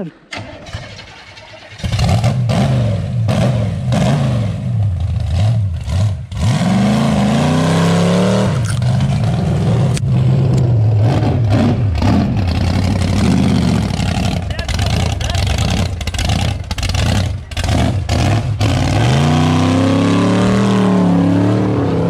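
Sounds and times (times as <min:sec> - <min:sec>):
truck engine revving under load: 0:01.1 - 0:22.0.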